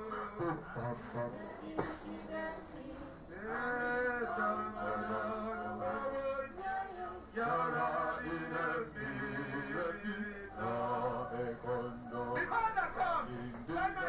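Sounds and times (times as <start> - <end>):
voices singing a hymn: 0.0 - 14.0.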